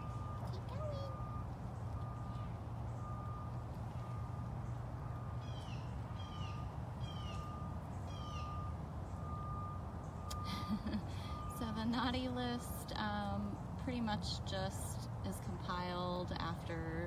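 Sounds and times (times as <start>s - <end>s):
vehicle backup alarm beeping: 0.0s - 13.8s
low engine rumble: 0.0s - 17.0s.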